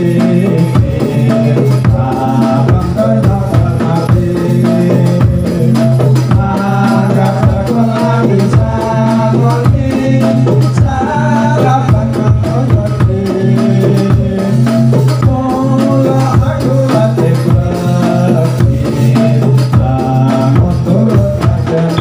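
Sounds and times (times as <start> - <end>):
drums: 0.0 - 22.0
shaken percussion: 0.0 - 22.0.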